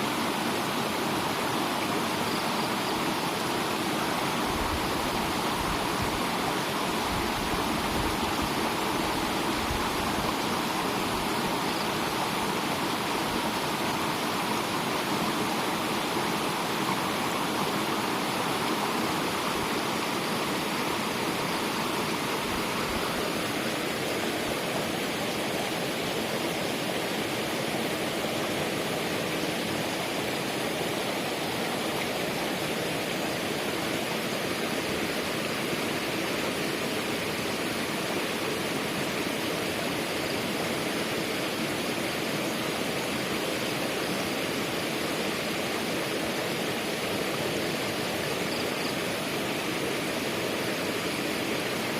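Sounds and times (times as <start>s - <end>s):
fast-flowing water rushing: 0.0s - 51.9s.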